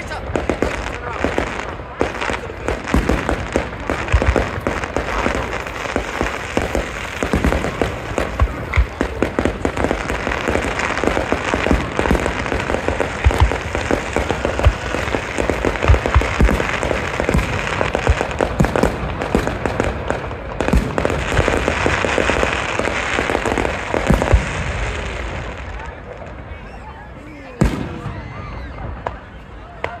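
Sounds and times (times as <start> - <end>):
firework booms: 0.0 - 26.5, 27.5 - 30.0
fireworks crackling: 0.0 - 30.0.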